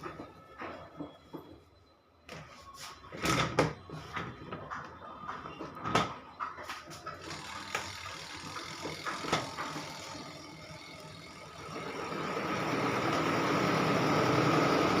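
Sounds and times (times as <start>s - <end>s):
washing machine spin motor whining: 0.0s - 15.0s.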